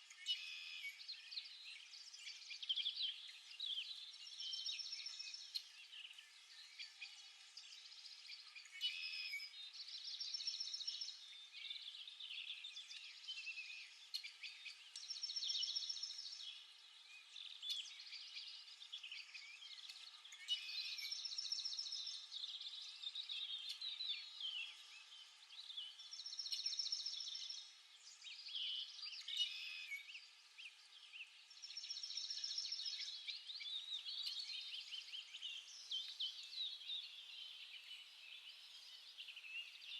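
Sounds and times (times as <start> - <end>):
bird trilled song: 0.0 - 39.9
songbirds chirping: 0.0 - 39.9.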